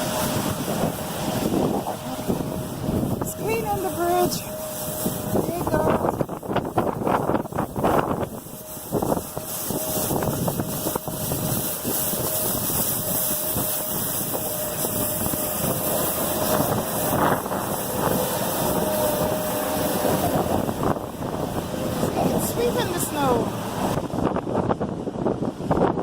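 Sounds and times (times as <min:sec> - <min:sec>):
snow sweeper engine whining: 0:00.0 - 0:24.8
wind noise on microphone: 0:00.0 - 0:26.0.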